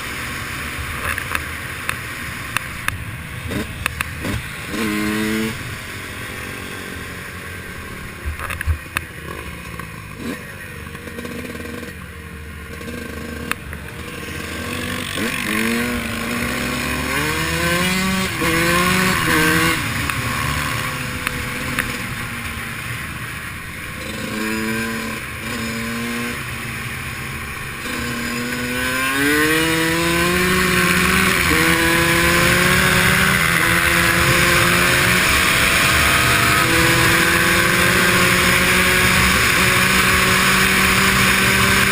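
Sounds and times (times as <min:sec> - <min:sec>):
dirt bike engine revving: 0:03.4 - 0:41.9.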